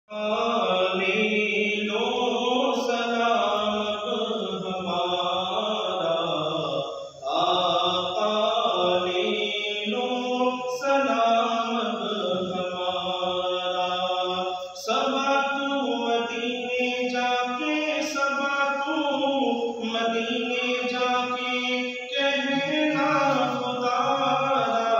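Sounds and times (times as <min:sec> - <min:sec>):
man chanting: 0:00.1 - 0:24.9.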